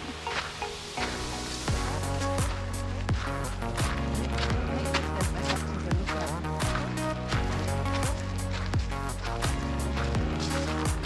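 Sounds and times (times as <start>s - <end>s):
kick drum: 1.7s - 11.0s.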